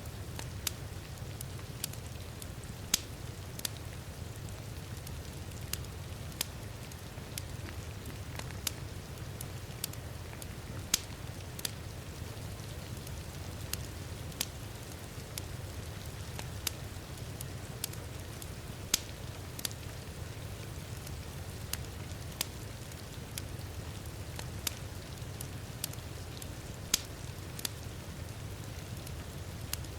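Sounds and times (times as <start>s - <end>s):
falling rain: 0.0s - 29.9s
wood fire crackling: 0.0s - 29.9s.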